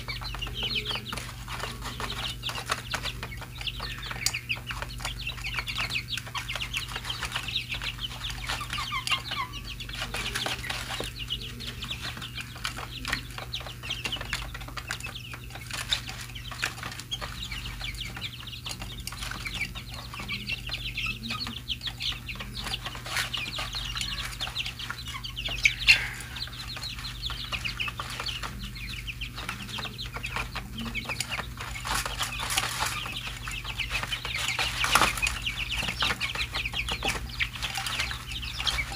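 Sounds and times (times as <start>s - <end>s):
beaks clicking on plastic tray: 0.0s - 38.9s
chicks cheeping: 0.0s - 38.9s.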